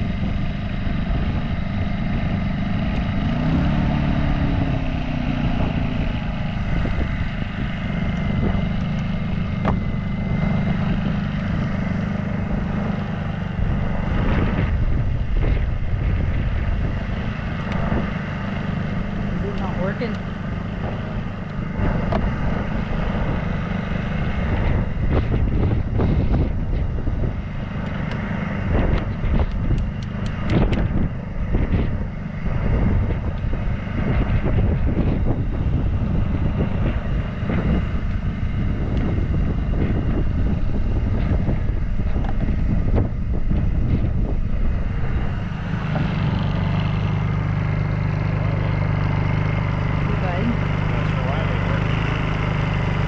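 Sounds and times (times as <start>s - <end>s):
generator engine running: 0.0s - 53.0s
wind buffeting microphone: 0.0s - 53.0s.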